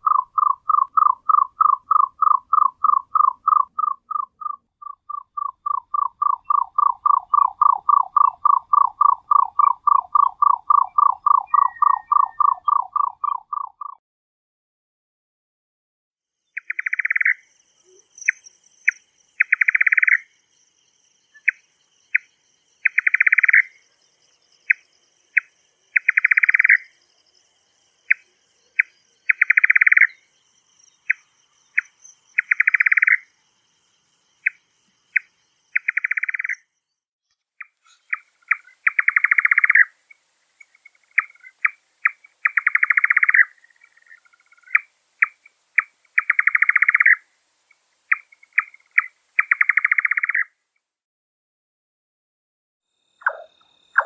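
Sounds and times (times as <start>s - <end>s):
high insect trill: 0.0s - 13.4s, 16.6s - 37.0s, 37.6s - 50.6s
nightjar calling: 0.0s - 14.0s, 16.6s - 20.3s, 21.3s - 24.0s, 24.6s - 27.0s, 28.0s - 33.4s, 34.4s - 36.7s, 37.6s - 50.6s, 53.2s - 54.0s.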